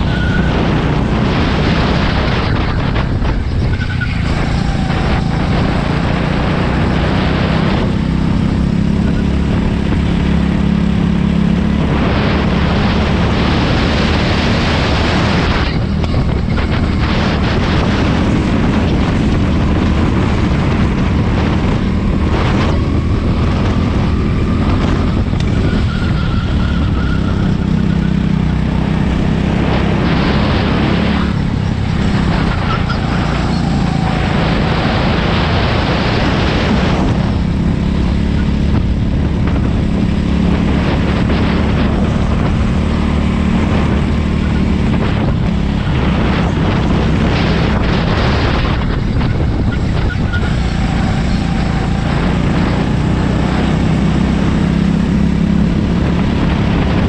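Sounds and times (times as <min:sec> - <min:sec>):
go-kart engine running hard: 0:00.0 - 0:57.0
wind rush over microphone: 0:00.0 - 0:57.0.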